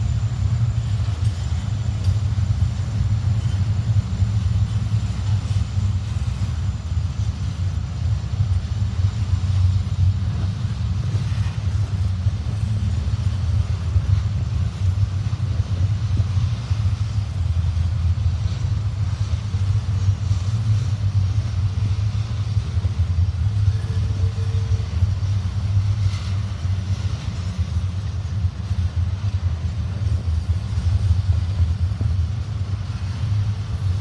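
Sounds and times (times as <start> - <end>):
freight train wheels rumbling on rails: 0.0 - 34.0.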